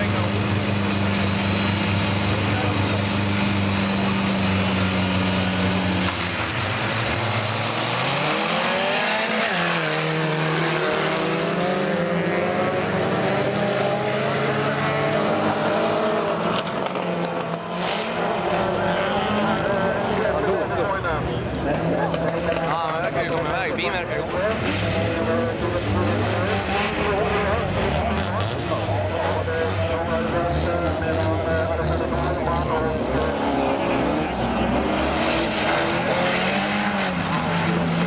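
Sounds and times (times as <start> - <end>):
race car engines revving: 0.0 - 38.0
race cars accelerating away: 0.0 - 38.0.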